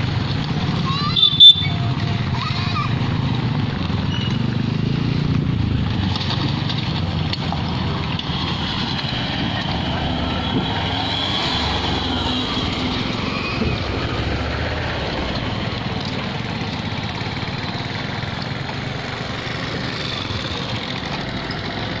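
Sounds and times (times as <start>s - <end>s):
light truck engine: 0.0s - 22.0s
motorcycle engine: 0.0s - 22.0s.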